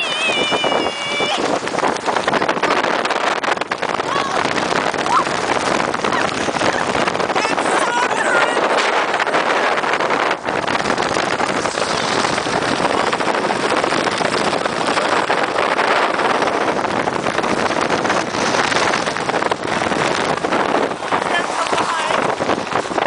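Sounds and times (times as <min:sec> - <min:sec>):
strong wind on microphone: 0:00.0 - 0:23.0.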